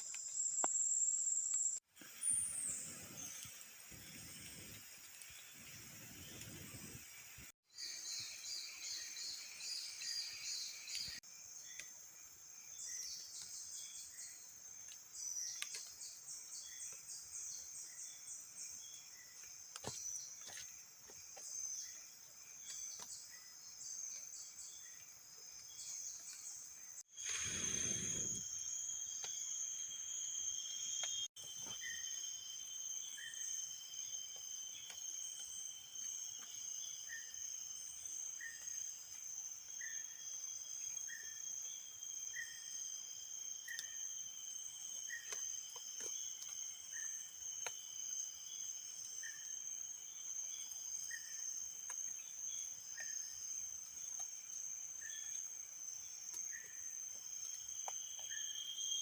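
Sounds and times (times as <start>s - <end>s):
insects trilling: 0.0s - 22.0s, 27.0s - 59.0s.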